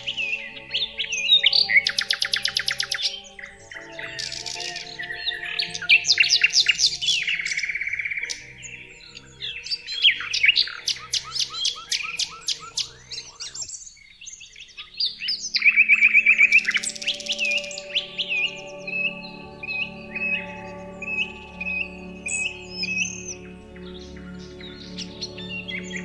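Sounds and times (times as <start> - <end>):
songbirds chirping and calling: 0.0 - 26.0.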